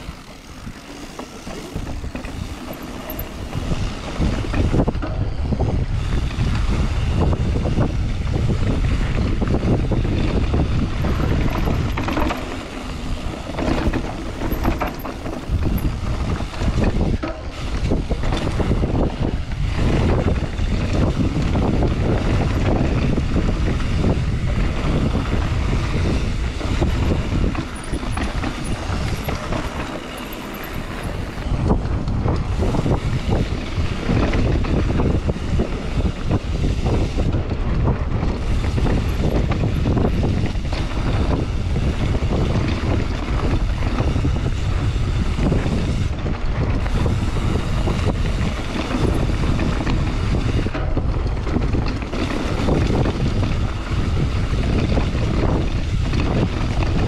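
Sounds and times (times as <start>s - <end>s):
low rumble of bike riding: 0.0s - 57.0s
wind buffeting microphone: 0.0s - 57.0s.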